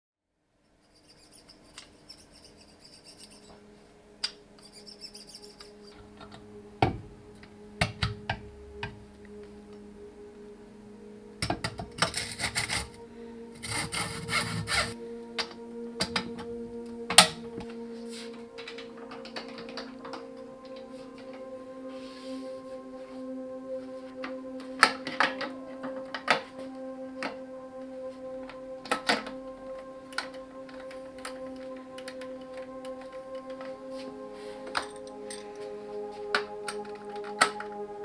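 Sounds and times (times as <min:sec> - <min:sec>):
low music drone: 0:00.7 - 0:38.0.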